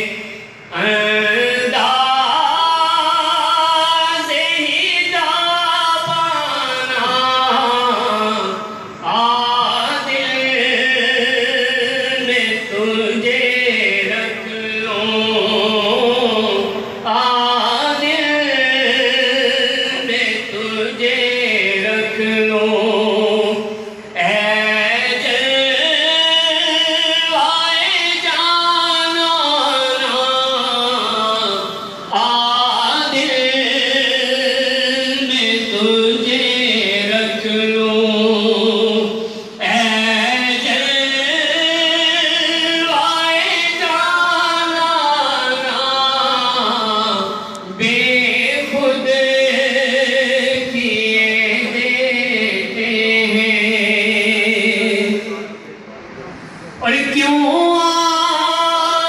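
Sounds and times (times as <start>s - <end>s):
man singing devotional song: 0.0s - 55.6s, 56.8s - 59.0s.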